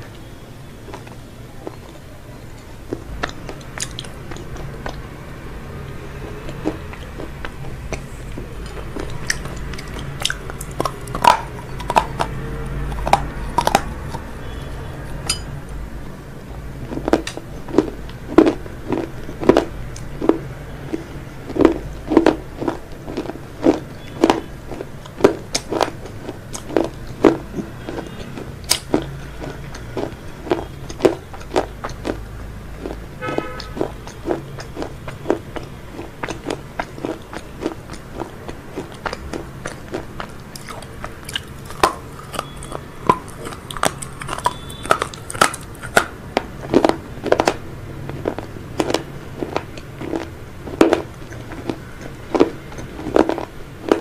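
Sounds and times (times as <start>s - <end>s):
crunchy chewing of fried food: 0.0s - 54.0s.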